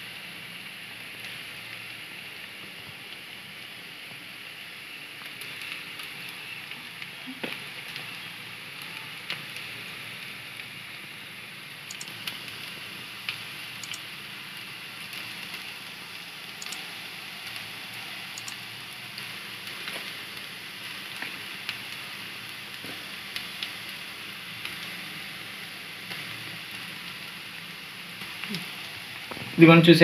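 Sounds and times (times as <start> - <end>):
batter sizzling in hot oil: 0.0 - 30.0.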